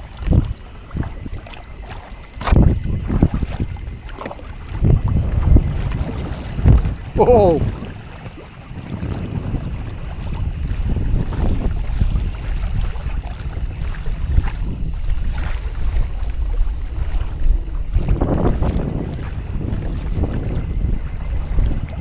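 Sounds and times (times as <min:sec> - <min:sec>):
water rushing and splashing: 0:00.0 - 0:22.0
wind buffeting microphone: 0:00.0 - 0:22.0.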